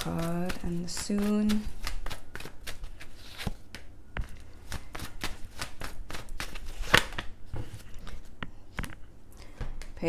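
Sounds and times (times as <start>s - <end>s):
cards being shuffled: 0.0s - 9.0s.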